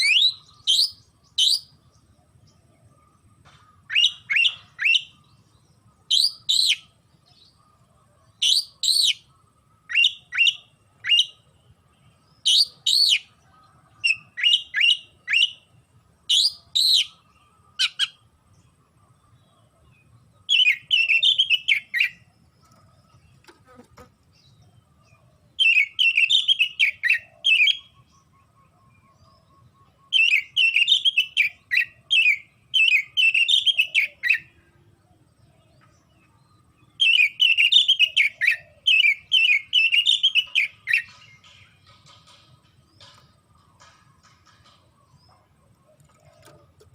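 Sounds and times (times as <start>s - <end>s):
bird singing whistled notes: 0.0s - 23.4s, 24.4s - 43.8s.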